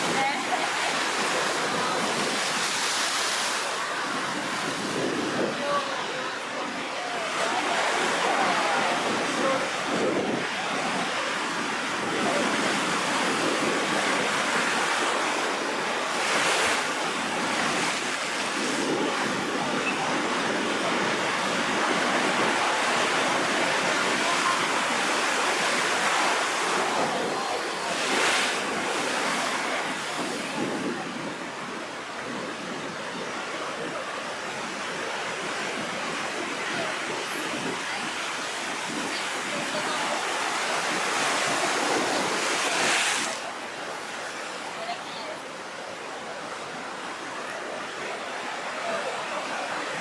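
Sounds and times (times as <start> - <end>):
waves breaking: 0.0 - 50.0.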